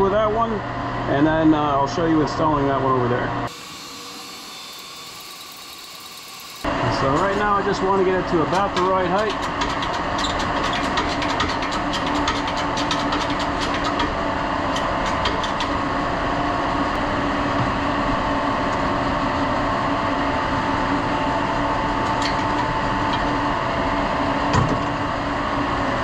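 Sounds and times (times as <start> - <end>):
printing machinery hum: 0.0 - 26.0.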